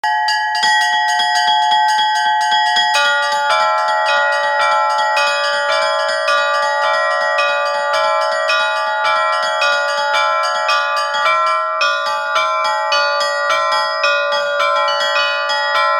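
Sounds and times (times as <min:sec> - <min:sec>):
church bells ringing: 0:00.0 - 0:15.9.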